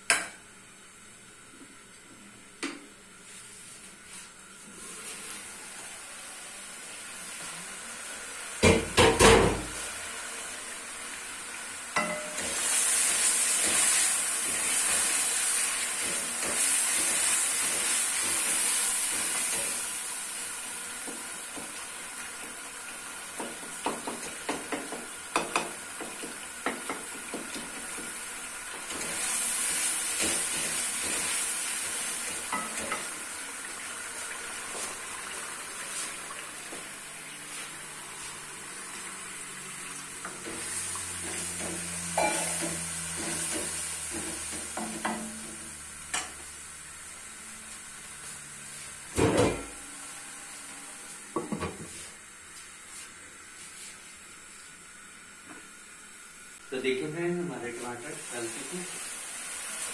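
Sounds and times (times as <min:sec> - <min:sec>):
tomatoes sizzling in oil: 0:02.5 - 0:59.9.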